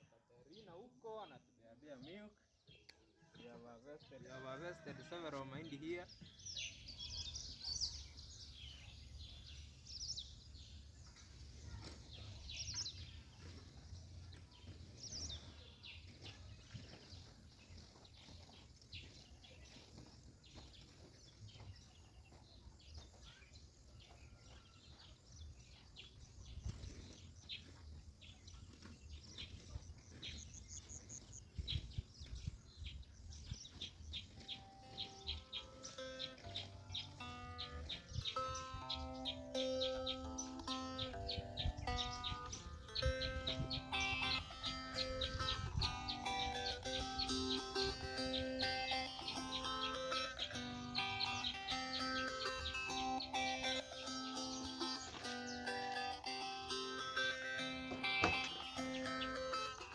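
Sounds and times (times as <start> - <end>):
birds chirping: 0.4 - 59.9.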